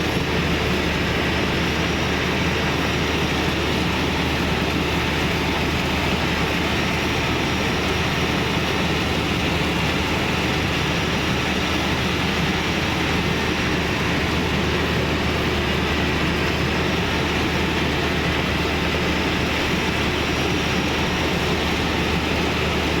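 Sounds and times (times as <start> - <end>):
combine harvester drone: 0.0 - 23.0.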